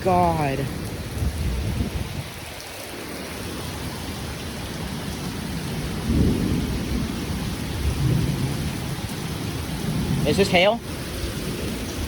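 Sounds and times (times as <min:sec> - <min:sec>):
thunder rumbling: 0:00.0 - 0:02.6, 0:04.7 - 0:12.0
heavy rain falling: 0:00.0 - 0:12.0.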